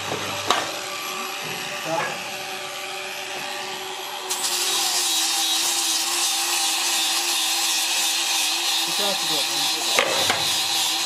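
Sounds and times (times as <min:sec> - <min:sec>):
power tool cutting log: 0:00.0 - 0:11.0.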